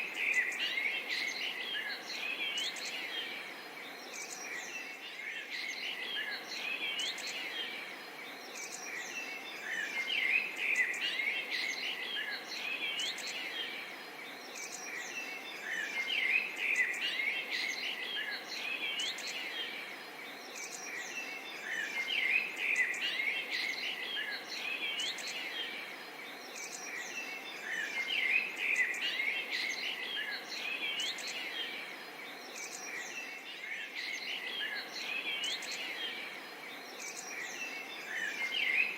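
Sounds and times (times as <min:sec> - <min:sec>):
birds chirping: 0:00.0 - 0:38.9
forest ambience hiss: 0:00.0 - 0:38.9.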